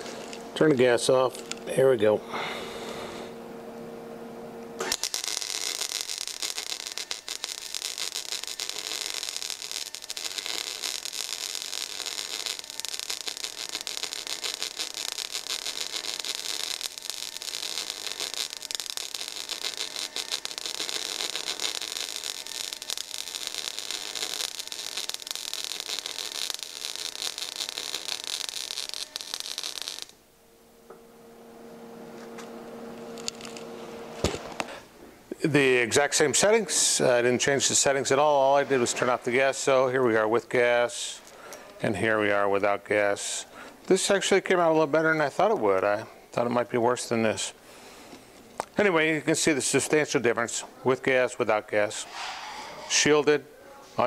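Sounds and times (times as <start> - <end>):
welding arc crackling: 0.0 - 41.5, 42.2 - 52.2
low steady hum: 0.0 - 49.4.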